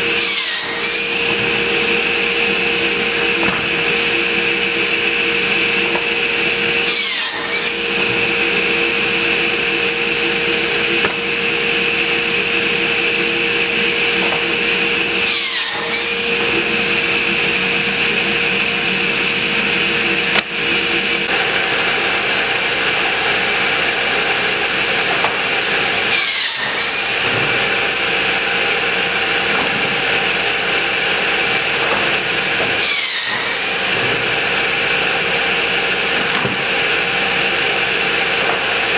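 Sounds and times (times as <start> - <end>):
cut-off saw whining: 0.0 - 38.9
saw cutting boards: 0.0 - 38.9.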